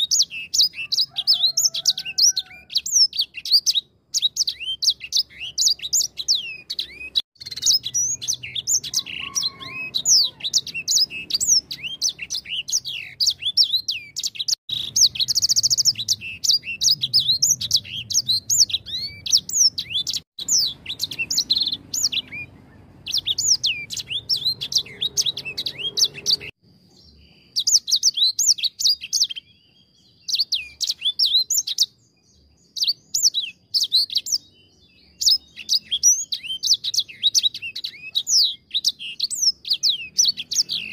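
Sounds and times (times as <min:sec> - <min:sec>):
songbird chirping and trilling: 0:00.0 - 0:40.9.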